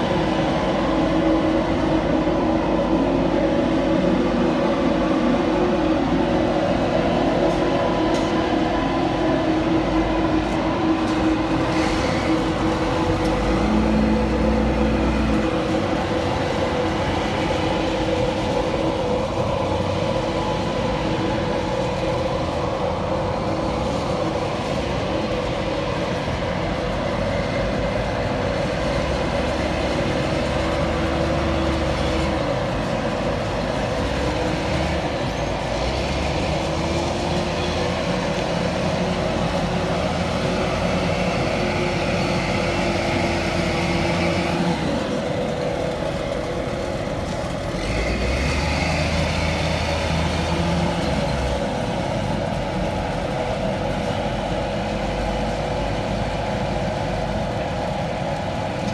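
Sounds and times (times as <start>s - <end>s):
diesel engine running: 0.0s - 58.9s
steady machinery hum: 0.0s - 58.9s.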